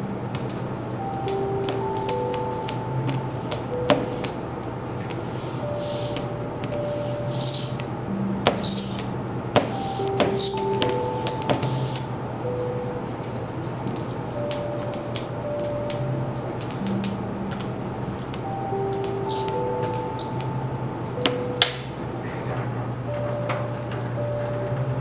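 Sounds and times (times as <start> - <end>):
soft background music: 0.0 - 25.0.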